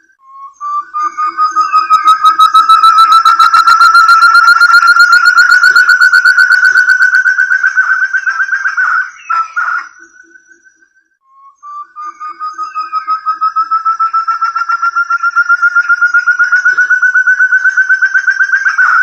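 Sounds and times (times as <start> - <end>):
quail whistled call: 0.0 - 19.0.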